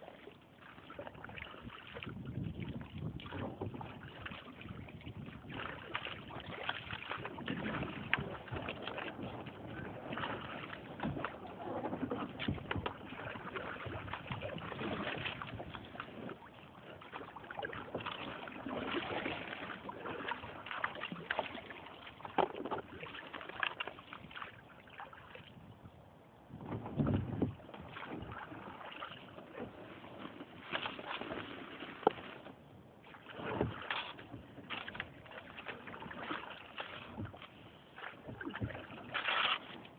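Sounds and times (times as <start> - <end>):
paddle splashes and drips: 0.0 - 39.9
water sloshing: 0.0 - 39.9.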